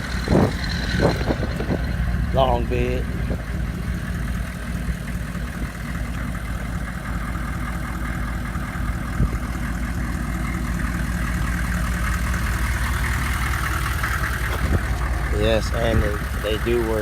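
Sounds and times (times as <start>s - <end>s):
diesel engine idling: 0.0s - 17.0s
short engine knock: 0.0s - 17.0s.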